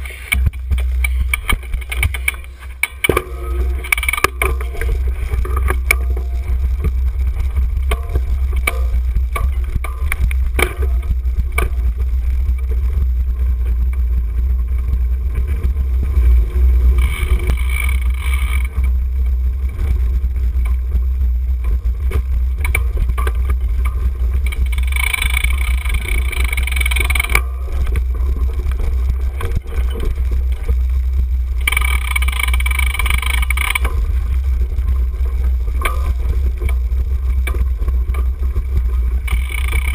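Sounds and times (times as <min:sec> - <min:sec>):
bike rattles and knocks: 0:00.0 - 0:39.9
wind and vibration rumble: 0:00.0 - 0:39.9.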